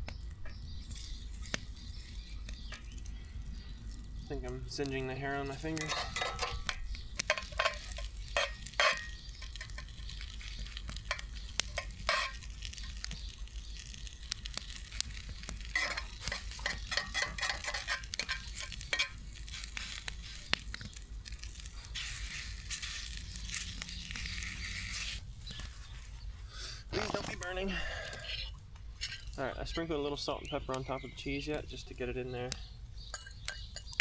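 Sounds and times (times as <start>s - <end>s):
eggs sizzling in a pan: 0.0s - 34.0s
utensil scraping a pan: 0.8s - 26.2s, 28.2s - 31.3s, 33.0s - 34.0s.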